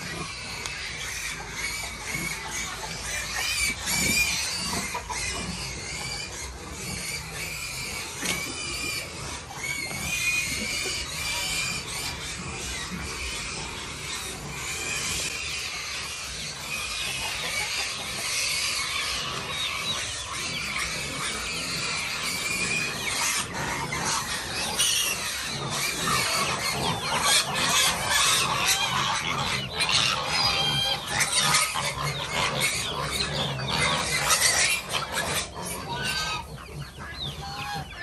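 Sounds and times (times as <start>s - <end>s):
pigs squealing: 0.0s - 38.0s.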